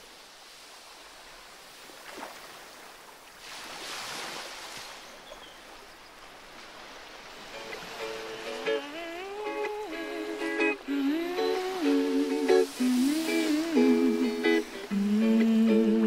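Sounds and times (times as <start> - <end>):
ocean waves washing: 0.0 - 16.0.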